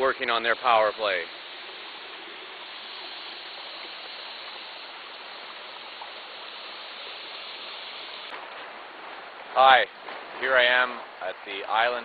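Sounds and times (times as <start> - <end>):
outdoor ambient rushing noise: 0.0 - 12.0.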